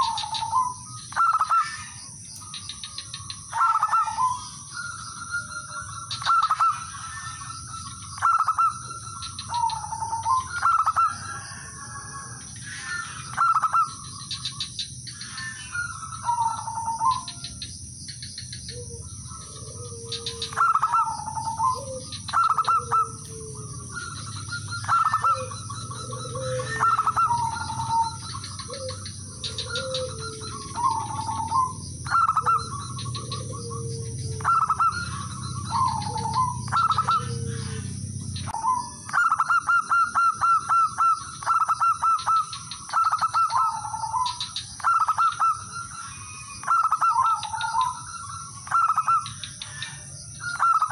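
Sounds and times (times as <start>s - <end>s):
dove cooing: 0.0s - 50.9s
lower-voiced dove calling: 0.0s - 50.9s.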